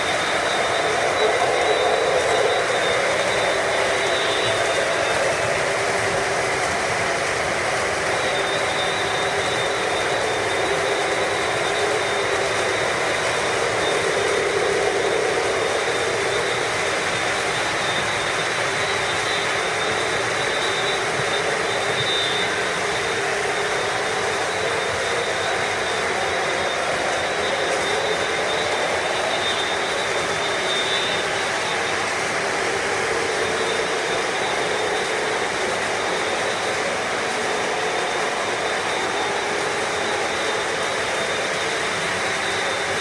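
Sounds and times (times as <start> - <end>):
model trains running on track: 0.0 - 43.0
thin high whine: 0.0 - 43.0.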